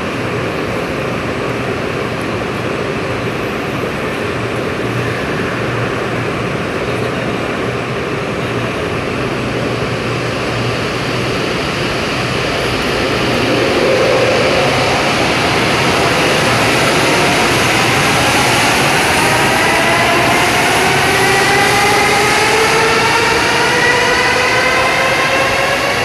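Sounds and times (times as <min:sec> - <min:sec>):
high-speed train rushing: 0:00.0 - 0:26.0.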